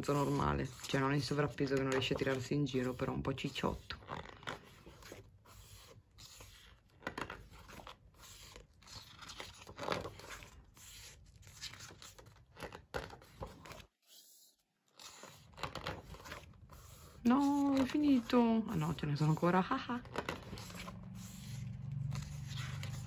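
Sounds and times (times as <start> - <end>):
book pages turning: 0.0 - 23.0.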